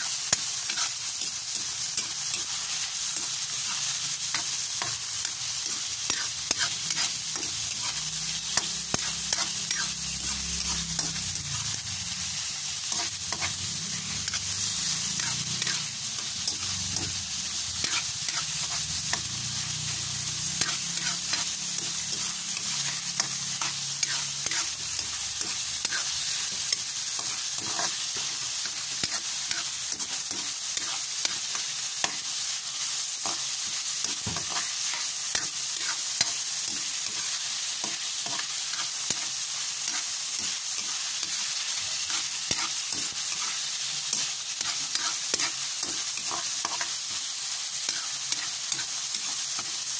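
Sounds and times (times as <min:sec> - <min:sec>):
chicken sizzling in hot oil: 0:00.0 - 0:49.9
spatula scraping a wok: 0:00.0 - 0:49.9.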